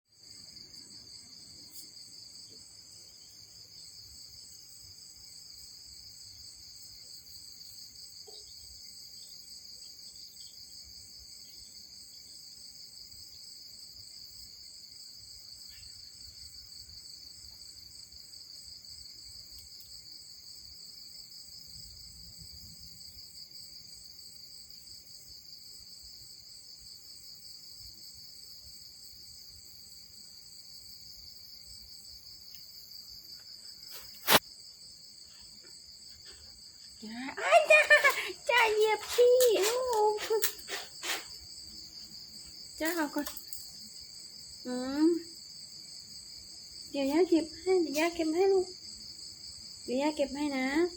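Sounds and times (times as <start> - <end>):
insects trilling: 0.1 - 50.9.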